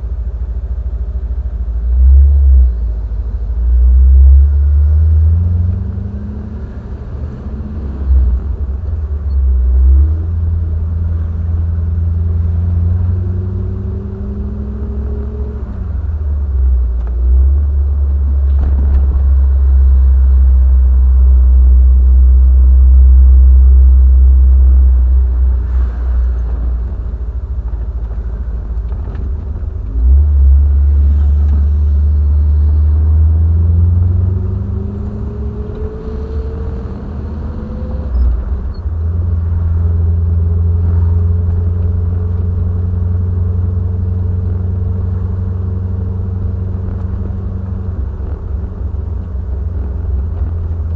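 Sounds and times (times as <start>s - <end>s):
car engine accelerating: 0.0s - 50.9s
low road rumble: 0.0s - 50.9s.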